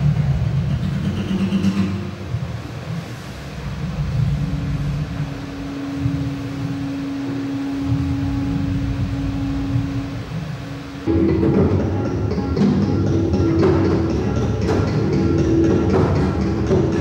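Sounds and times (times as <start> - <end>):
low wavering rumbling drone: 0.0 - 17.0
steady held tone: 0.0 - 17.0.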